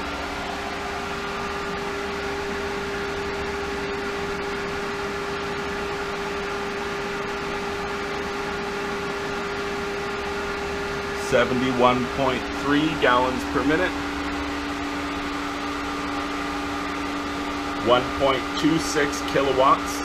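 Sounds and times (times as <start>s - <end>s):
pool pump humming: 0.0s - 20.0s.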